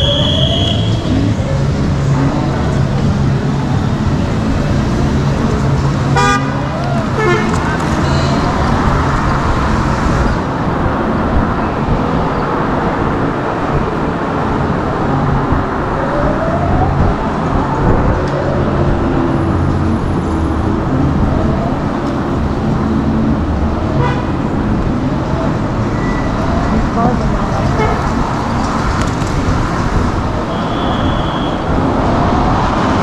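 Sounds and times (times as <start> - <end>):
wind and road noise rumble: 0.0 - 33.0.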